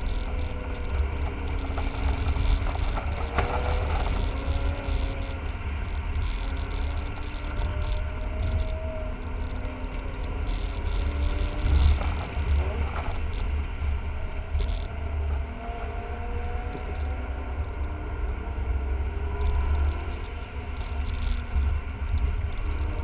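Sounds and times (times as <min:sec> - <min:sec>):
car engine running: 0:00.0 - 0:23.0
road and wind rumble: 0:00.0 - 0:23.0.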